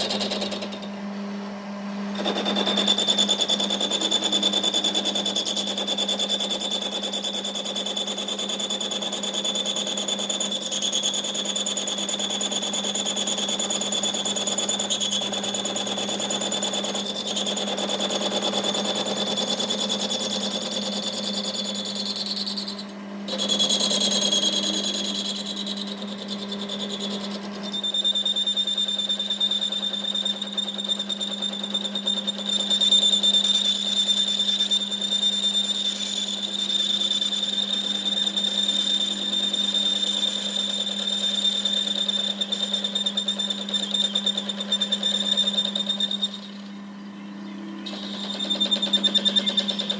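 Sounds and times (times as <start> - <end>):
workshop machine whining: 0.0 - 49.9.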